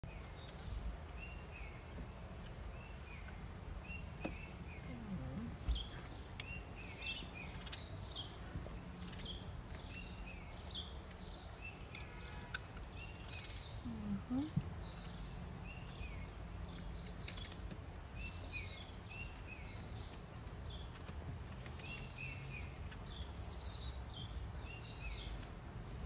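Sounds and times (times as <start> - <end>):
low background noise: 0.0 - 26.0
small birds chirping: 0.0 - 26.0.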